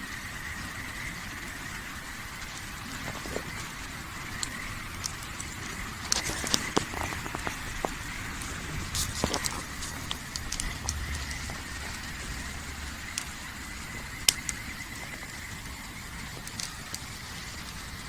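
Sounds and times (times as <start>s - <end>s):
campfire crackling and popping: 0.5s - 18.0s.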